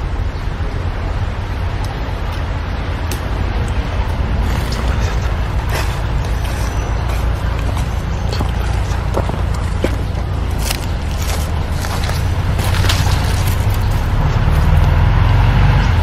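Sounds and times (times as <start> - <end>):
heavy low rumble: 0.0 - 16.0.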